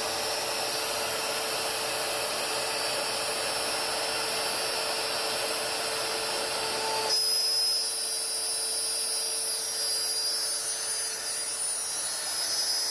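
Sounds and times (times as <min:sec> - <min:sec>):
router spindle whining: 0:00.0 - 0:12.9.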